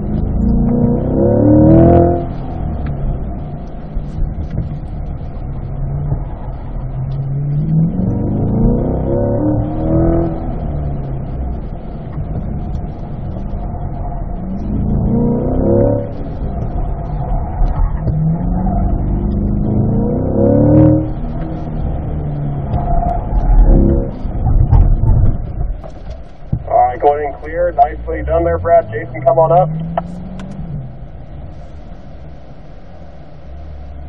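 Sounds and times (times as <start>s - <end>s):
car engine revving: 0.0s - 34.0s
tyre and road noise: 0.0s - 34.0s.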